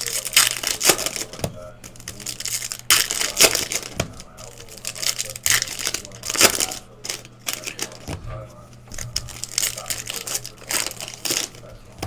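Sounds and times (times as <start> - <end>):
foil wrappers crinkling and tearing: 0.0 - 12.0.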